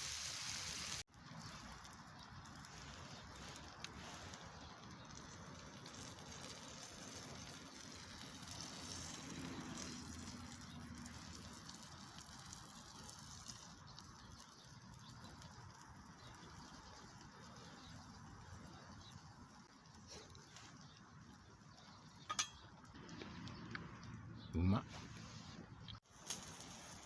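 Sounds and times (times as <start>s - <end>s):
wood fire crackling and hissing: 0.0s - 27.0s.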